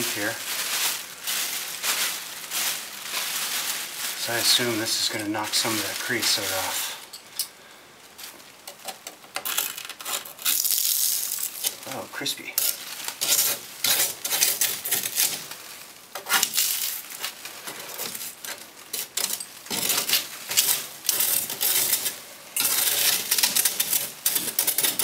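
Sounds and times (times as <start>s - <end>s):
flakes rattling into plastic bag: 0.0s - 7.1s, 9.4s - 25.0s.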